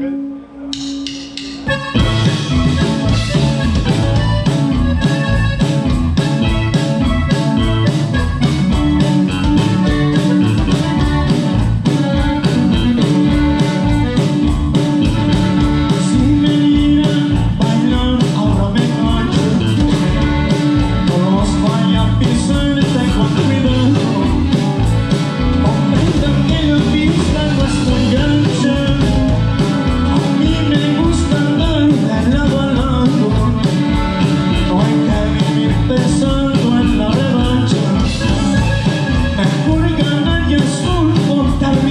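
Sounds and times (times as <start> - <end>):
electric bass: 0.0 - 41.9
twelve-string guitar strumming: 0.0 - 41.9
drum kit beat: 0.7 - 41.9
button accordion: 1.0 - 41.9.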